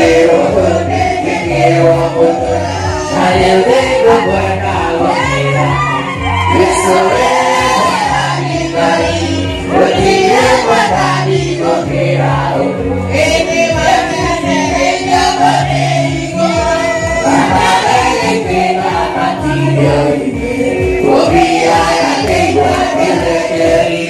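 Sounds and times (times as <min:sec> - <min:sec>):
amplified band playing: 0:00.0 - 0:24.0
choir singing gospel music: 0:00.0 - 0:24.0.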